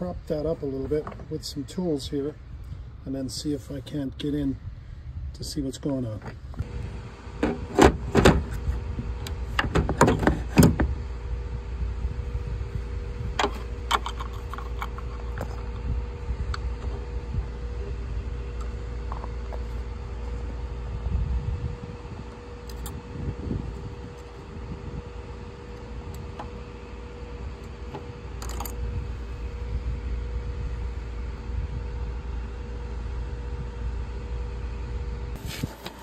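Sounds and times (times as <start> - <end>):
steady low rumble: 0.0 - 35.7.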